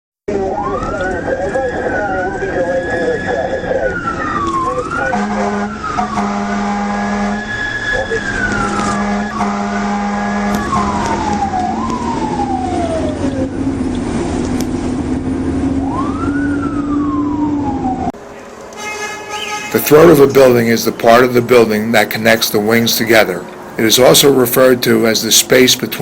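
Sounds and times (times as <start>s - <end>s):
fire engine siren: 0.3s - 23.4s.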